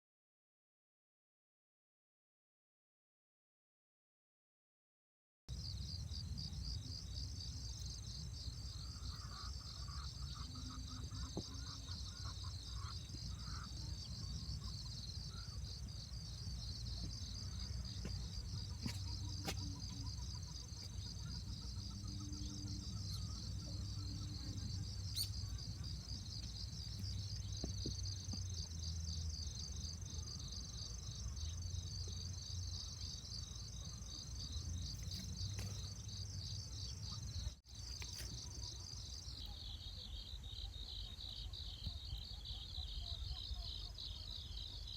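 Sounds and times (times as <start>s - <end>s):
crickets chirping: 5.5s - 44.9s.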